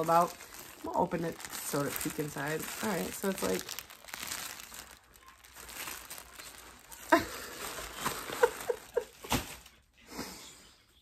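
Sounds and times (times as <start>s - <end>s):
plastic packaging crinkling: 0.0s - 9.8s
sharp plastic crackle: 0.0s - 9.8s.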